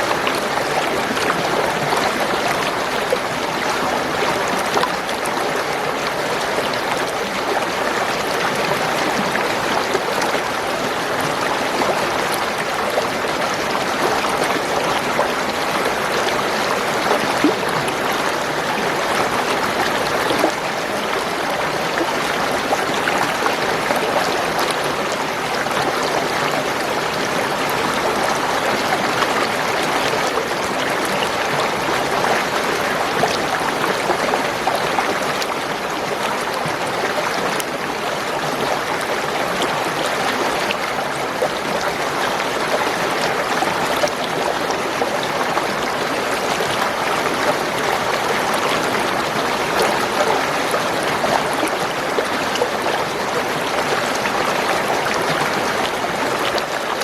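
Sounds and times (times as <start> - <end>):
spring water gurgling: 0.0 - 57.0.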